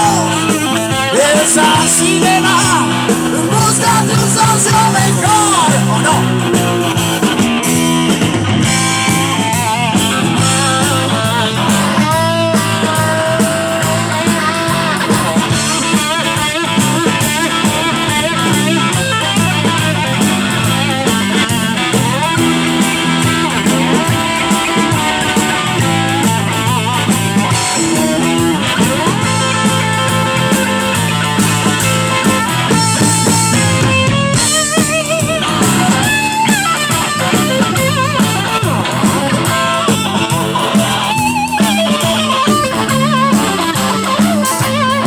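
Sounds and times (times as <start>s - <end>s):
bass guitar: 0.0s - 45.0s
drum kit: 0.0s - 45.0s
lead electric guitar bending notes: 0.0s - 45.0s
rhythm guitar: 0.0s - 45.0s.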